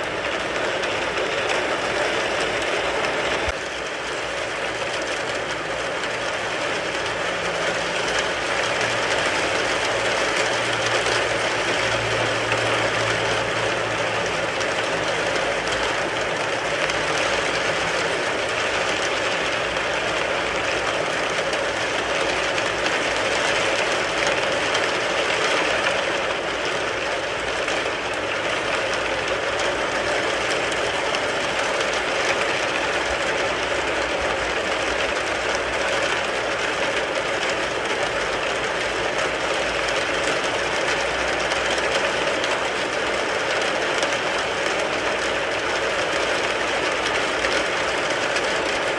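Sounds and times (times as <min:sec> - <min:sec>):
rain drumming on car roof: 0:00.0 - 0:48.9.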